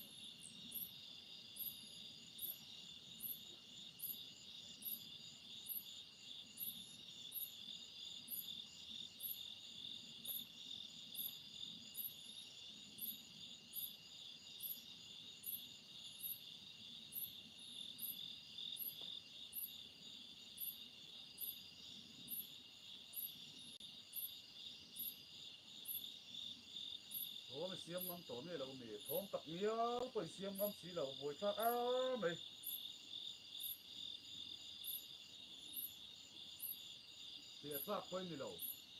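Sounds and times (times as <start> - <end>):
crickets and insects trilling: 0.0 - 38.9
insect high chirp: 0.0 - 38.9.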